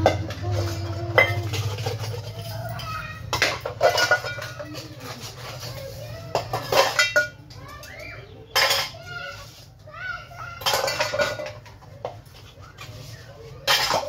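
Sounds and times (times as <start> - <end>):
steel utensils clattering: 0.0 - 9.4, 10.3 - 14.0.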